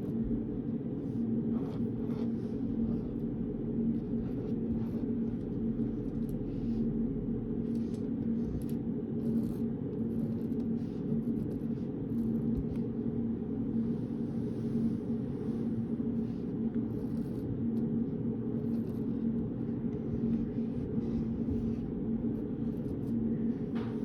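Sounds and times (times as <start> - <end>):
low room hum: 0.0 - 24.0
pen writing on paper: 1.0 - 3.2, 3.9 - 6.8, 7.6 - 13.0, 15.1 - 24.0.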